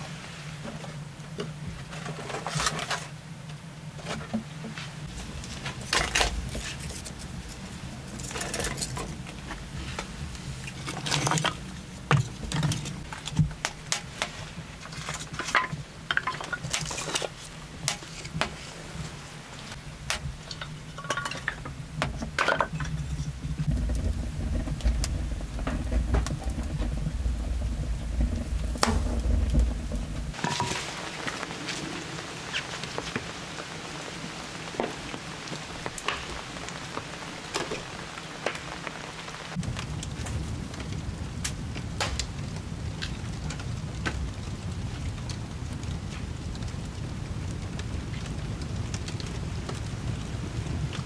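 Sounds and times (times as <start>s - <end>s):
kindling crackling and snapping: 0.0s - 51.0s
low rush of flames: 0.0s - 51.0s.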